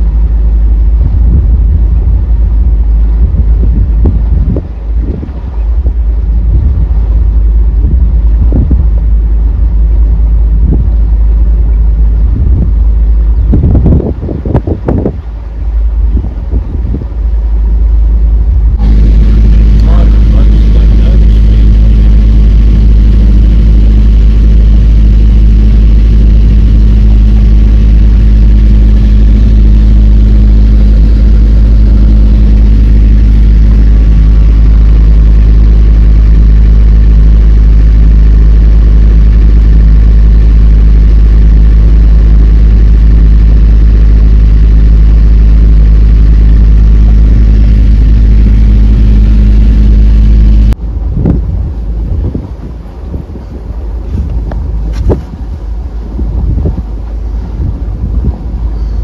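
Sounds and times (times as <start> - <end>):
boat diesel engine running: 0.0 - 59.0.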